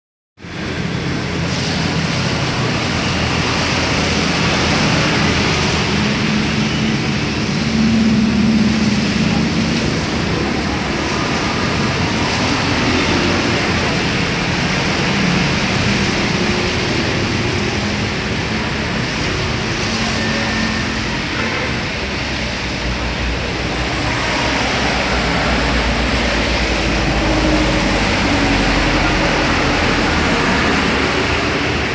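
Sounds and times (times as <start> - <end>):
passing vehicles rushing: 0.4 - 31.9.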